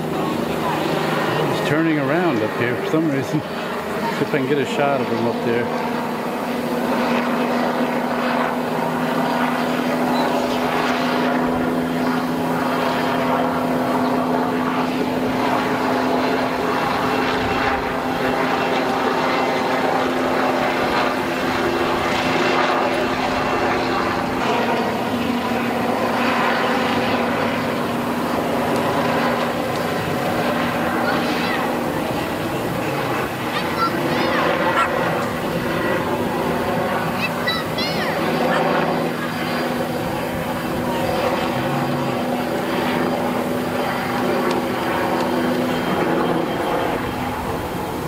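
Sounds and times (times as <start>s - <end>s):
helicopter rotor drone: 0.0s - 48.0s.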